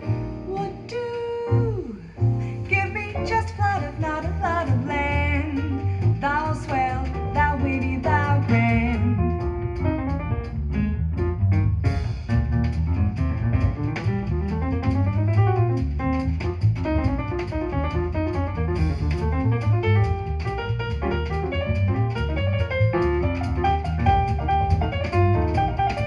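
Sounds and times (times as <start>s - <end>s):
drum kit: 0.0s - 1.0s, 2.3s - 26.0s
double bass: 0.0s - 26.0s.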